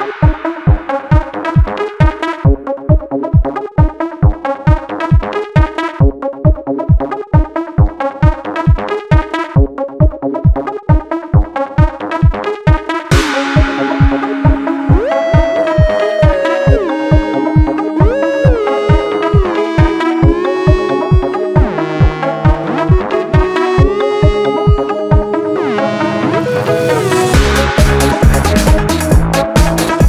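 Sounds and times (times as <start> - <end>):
synthesizer chords: 0.0 - 30.0
kick-drum beat: 0.1 - 25.4, 27.3 - 30.0.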